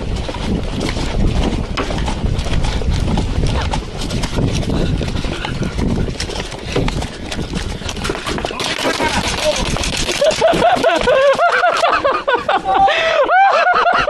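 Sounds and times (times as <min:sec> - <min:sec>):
running footsteps: 0:00.0 - 0:14.0
wind rumbling on microphone: 0:00.0 - 0:14.0
gear rattling: 0:00.1 - 0:12.0.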